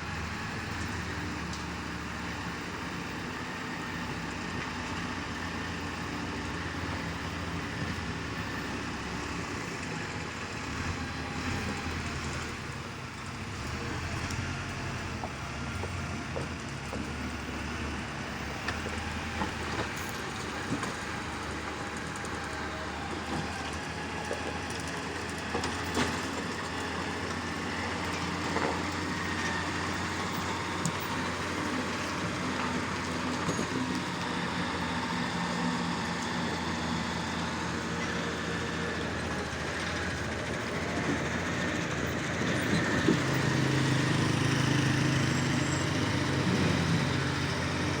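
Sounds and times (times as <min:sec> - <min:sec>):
heavy machinery diesel engines: 0:00.0 - 0:48.0.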